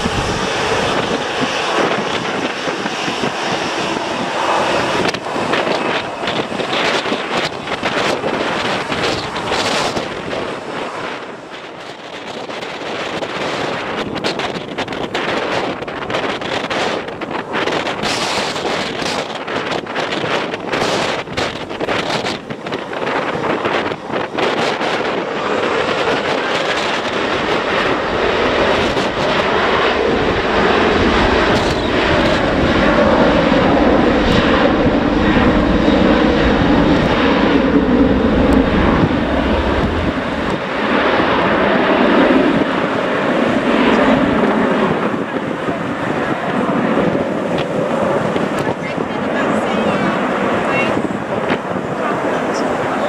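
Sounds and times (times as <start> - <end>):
jet airliner passing: 0.0 - 53.0.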